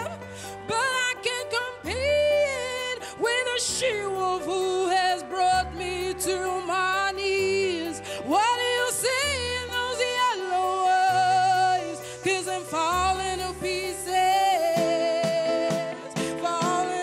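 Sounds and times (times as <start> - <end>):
pop backing music: 0.0 - 17.0
woman singing with vibrato: 0.0 - 17.0.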